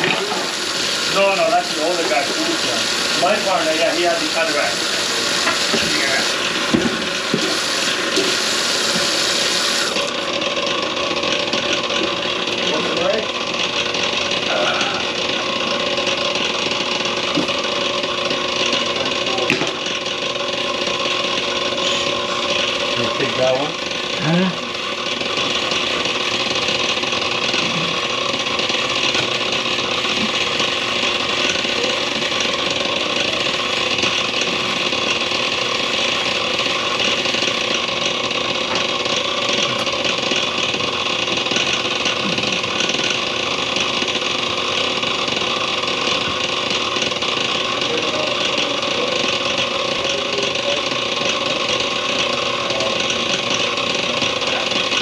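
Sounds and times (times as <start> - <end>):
motor machine whining: 0.0 - 55.0.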